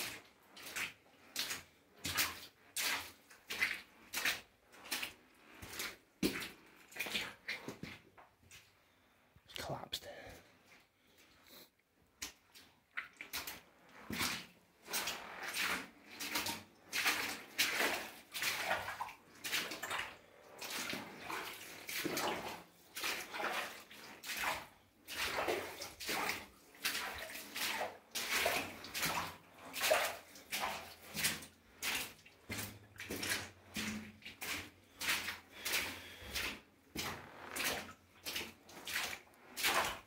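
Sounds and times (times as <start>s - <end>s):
footsteps splashing through water: 0.0s - 8.8s, 12.2s - 40.0s.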